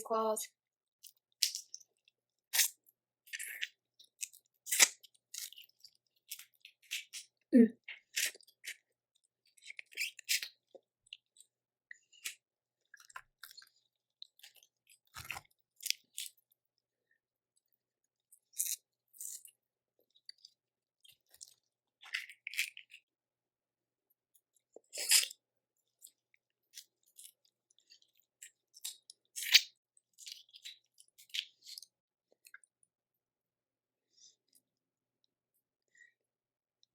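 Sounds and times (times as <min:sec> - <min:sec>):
wet chewing and crunching: 0:01.0 - 0:16.8, 0:17.5 - 0:23.1, 0:24.3 - 0:32.9.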